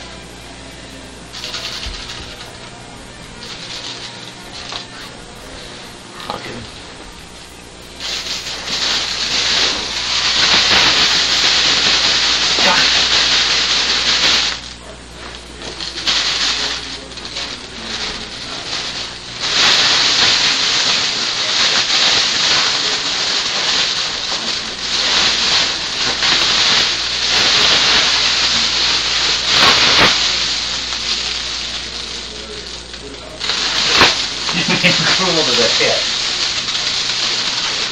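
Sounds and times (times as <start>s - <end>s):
plastic sack rustling: 0.0s - 37.9s.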